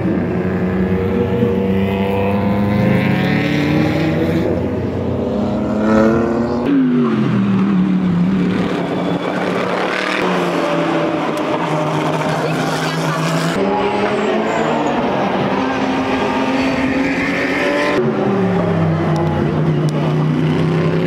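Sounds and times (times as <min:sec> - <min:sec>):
race car engines: 0:00.0 - 0:21.0.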